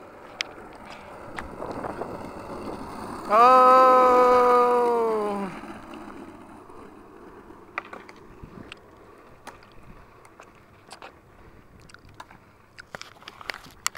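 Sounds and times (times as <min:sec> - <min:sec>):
skateboard wheels rolling on asphalt: 0:00.0 - 0:13.9.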